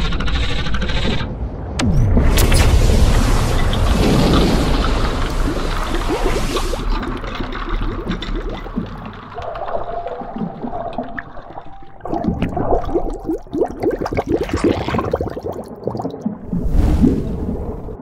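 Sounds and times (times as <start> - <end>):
underwater bubbling: 3.0 - 18.0.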